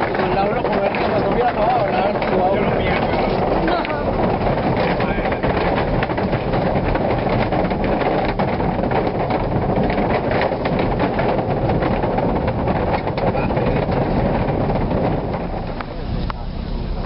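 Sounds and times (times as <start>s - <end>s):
tyres rolling over wooden planks: 0.0s - 17.0s
wheels knocking on boards: 0.0s - 17.0s.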